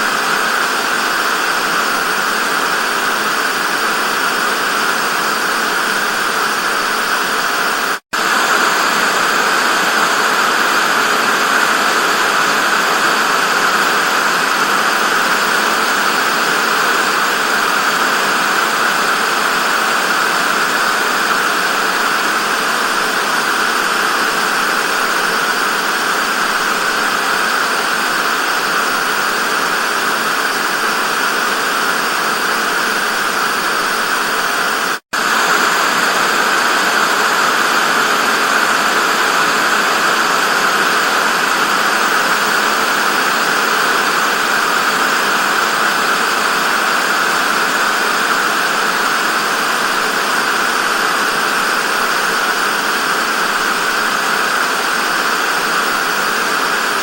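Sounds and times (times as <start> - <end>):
tv static hiss: 0.0 - 57.0.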